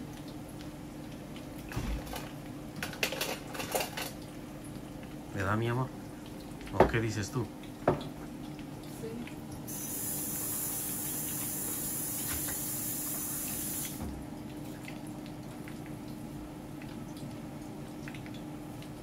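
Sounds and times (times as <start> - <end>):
water running from a tap: 0.0 - 16.2.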